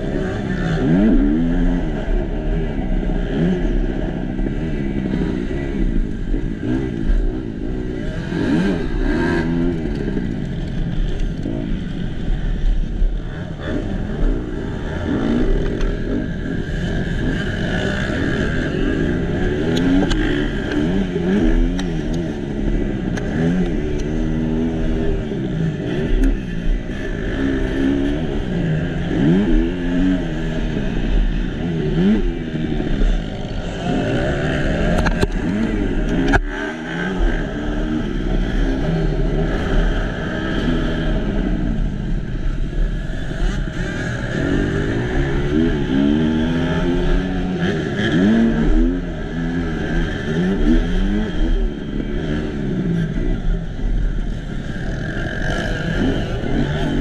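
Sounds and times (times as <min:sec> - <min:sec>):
motocross bike engine racing: 0:00.0 - 0:57.0
other motocross bikes: 0:00.0 - 0:57.0.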